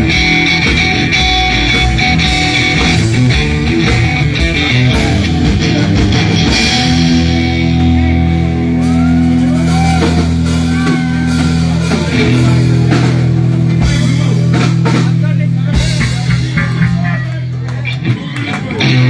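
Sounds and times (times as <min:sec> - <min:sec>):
blues rock band playing: 0:00.0 - 0:19.0
electric guitar bent notes: 0:00.0 - 0:19.0.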